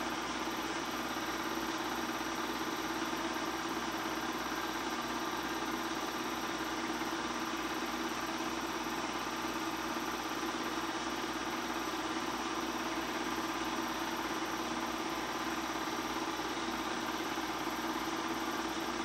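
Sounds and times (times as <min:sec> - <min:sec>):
film projector humming: 0:00.0 - 0:19.0.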